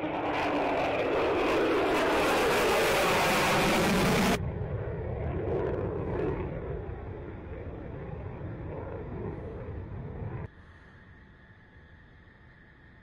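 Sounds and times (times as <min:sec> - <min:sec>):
distant jet engine noise: 0:00.0 - 0:10.5
jet engine roar: 0:00.0 - 0:10.5.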